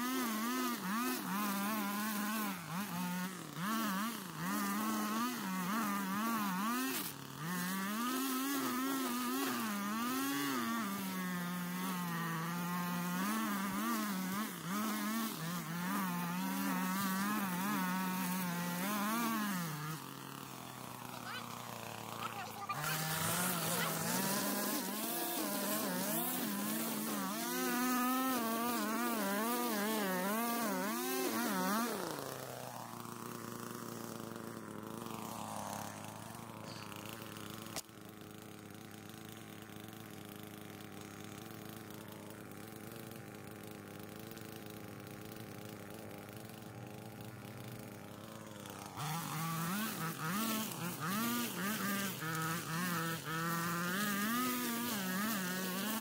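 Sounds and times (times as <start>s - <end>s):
string trimmer engine revving: 0.0s - 56.0s.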